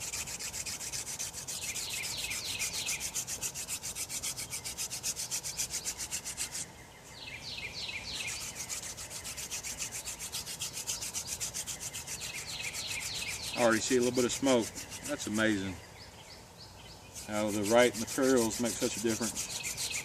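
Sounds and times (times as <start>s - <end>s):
wood rasping on wood: 0.0s - 6.6s, 8.2s - 15.6s, 17.2s - 20.0s.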